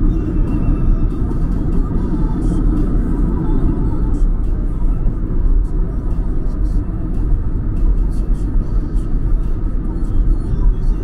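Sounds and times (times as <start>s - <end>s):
train rumble from inside: 0.0s - 11.0s.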